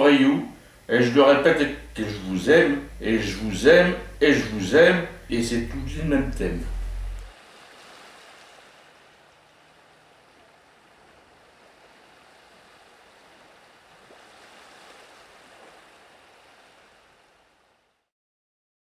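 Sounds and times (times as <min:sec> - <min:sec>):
distant sea surf: 0:00.0 - 0:18.0.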